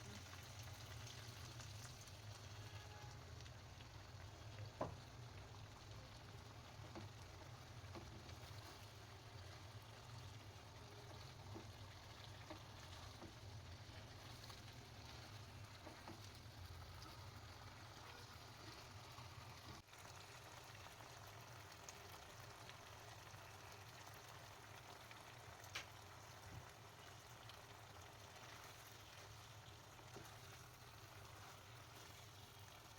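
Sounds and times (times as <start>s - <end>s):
chicken sizzling in oil: 0.0s - 32.9s.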